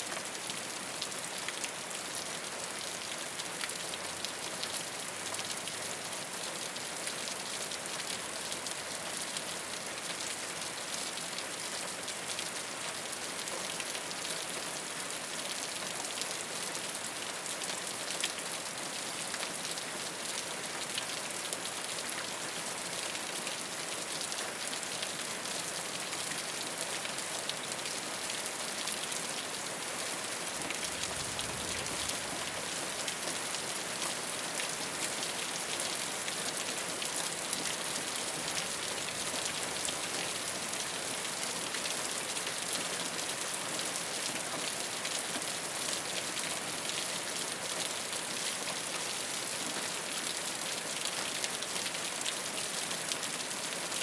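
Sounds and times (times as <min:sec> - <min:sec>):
rain on a rooftop: 0:00.0 - 0:54.0.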